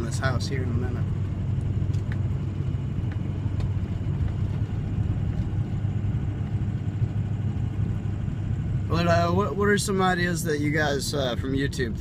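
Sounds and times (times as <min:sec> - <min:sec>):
truck engine drone and road noise: 0:00.0 - 0:12.0.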